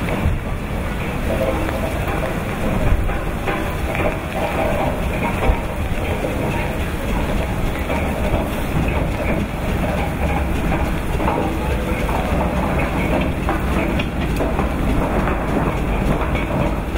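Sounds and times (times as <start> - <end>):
iron wheels rumbling on cobblestones: 0.0 - 16.9
rain: 0.0 - 16.9.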